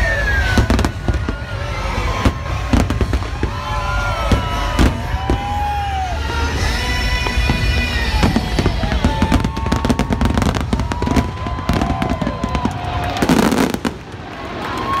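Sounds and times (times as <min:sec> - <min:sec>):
firework bursts and crackles: 0:00.0 - 0:15.0.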